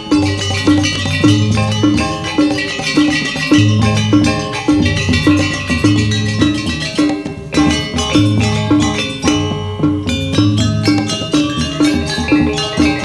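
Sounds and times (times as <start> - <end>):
drums: 0.0 - 13.0
low sustained tones: 0.0 - 13.0
metallophones striking notes: 0.0 - 13.0.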